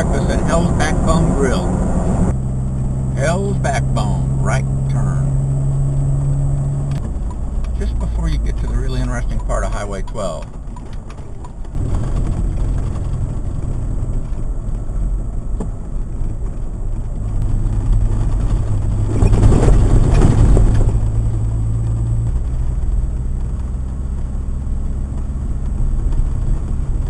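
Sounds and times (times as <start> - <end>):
rush of noise: 0.0 - 10.5, 11.7 - 23.1
road noise: 0.0 - 27.0
vehicle engine droning: 0.0 - 27.0.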